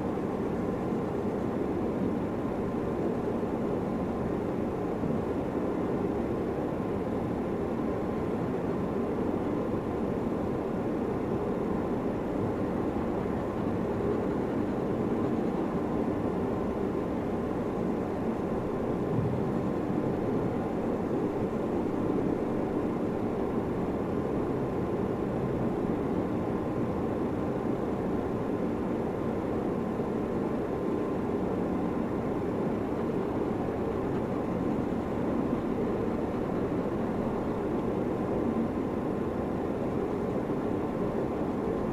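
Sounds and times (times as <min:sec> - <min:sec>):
faint steady tone: 0:00.0 - 0:41.9
low rumbling background noise: 0:00.0 - 0:41.9.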